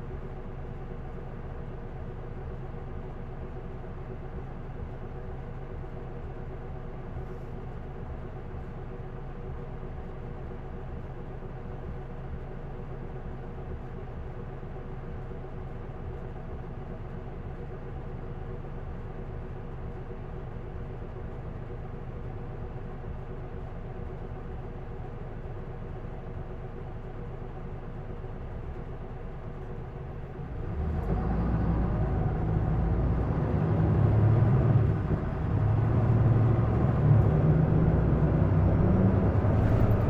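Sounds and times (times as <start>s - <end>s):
bus diesel engine running: 0.0s - 40.0s.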